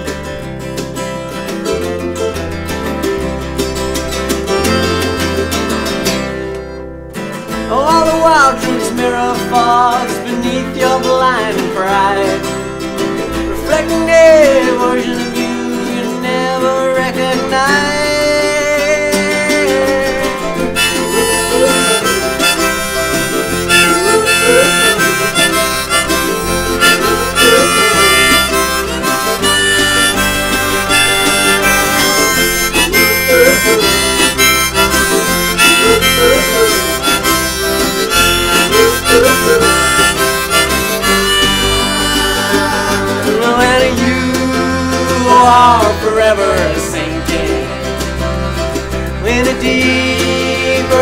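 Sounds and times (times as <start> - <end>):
harmonica solo with bent notes: 0.0 - 6.8, 7.5 - 16.2, 17.7 - 51.0
folk-rock band backing: 0.0 - 51.0.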